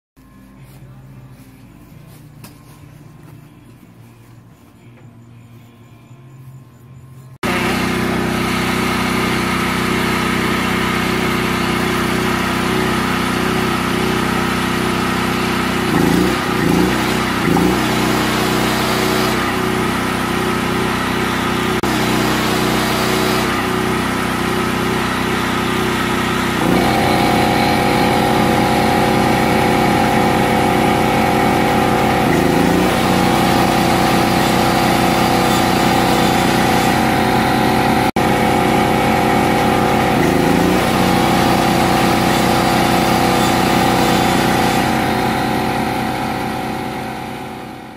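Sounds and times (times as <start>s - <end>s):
generator engine running: 0.2s - 47.9s
electric motor whine: 7.2s - 47.9s.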